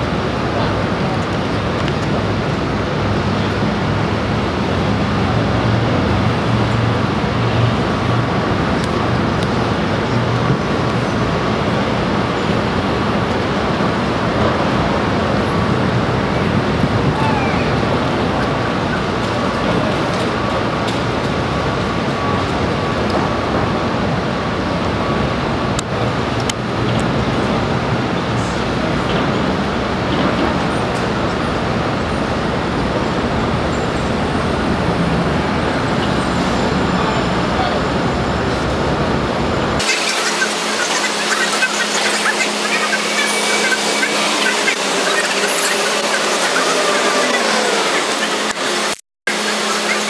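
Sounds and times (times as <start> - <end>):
city traffic noise: 0.0 - 50.0.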